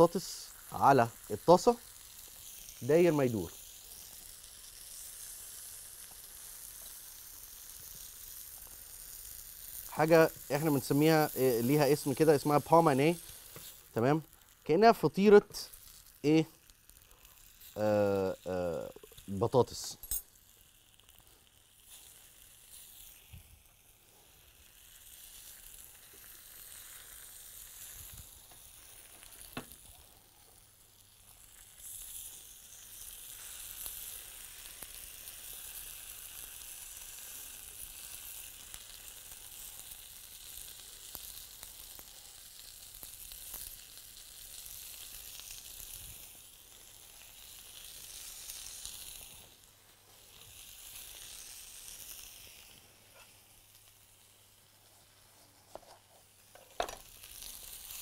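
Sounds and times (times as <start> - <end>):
potato slices sizzling in a frying pan: 0.0 - 58.0.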